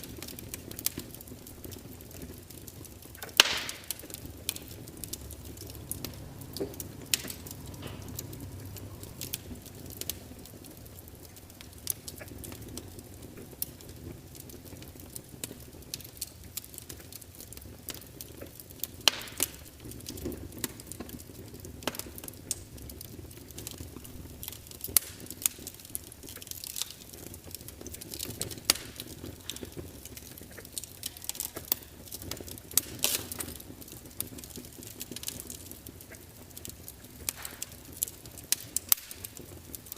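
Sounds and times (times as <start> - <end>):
low rumble of flame: 0.0 - 39.9
wood crackling and popping: 0.0 - 39.9.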